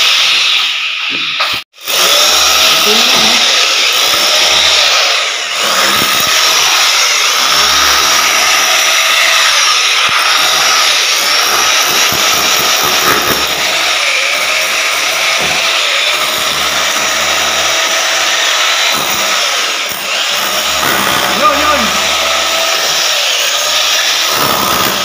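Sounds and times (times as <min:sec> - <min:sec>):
power tool running: 0:00.0 - 0:25.0.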